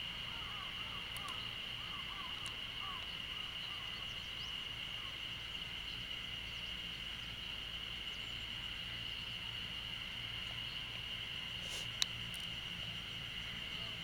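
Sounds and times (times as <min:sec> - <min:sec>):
faint low outdoor rumble: 0:00.0 - 0:14.0
insects droning: 0:00.0 - 0:14.0.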